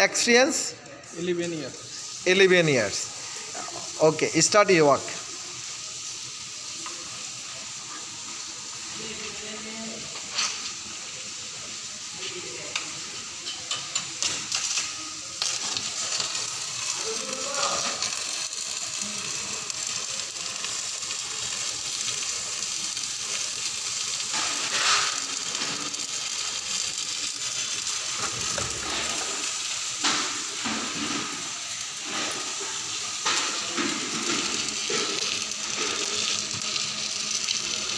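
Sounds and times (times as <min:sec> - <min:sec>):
arc welding crackling: 0:00.0 - 0:37.9.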